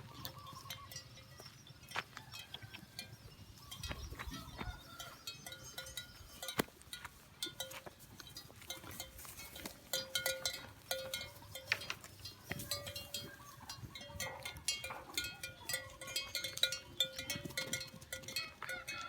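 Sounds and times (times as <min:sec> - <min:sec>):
cattle bells clanking: 0:00.0 - 0:19.0.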